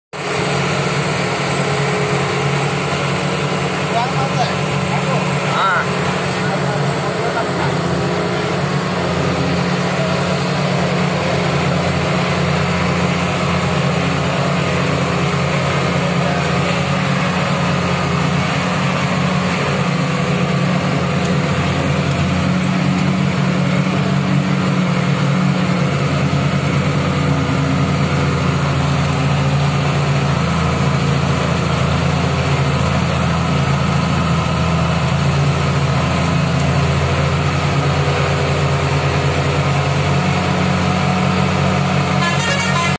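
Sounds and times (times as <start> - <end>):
road noise: 0.1 - 42.9
vehicle engine droning: 0.1 - 42.9.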